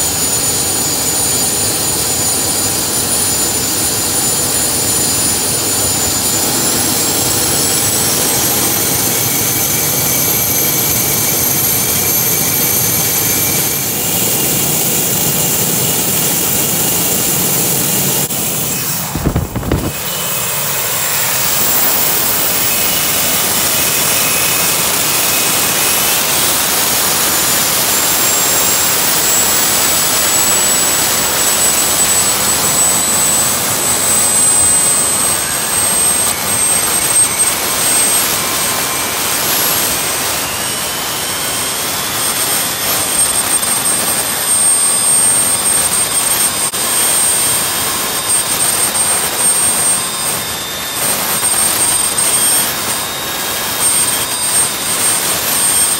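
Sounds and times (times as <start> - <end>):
jet engine roaring with turbine whine: 0.0 - 55.9.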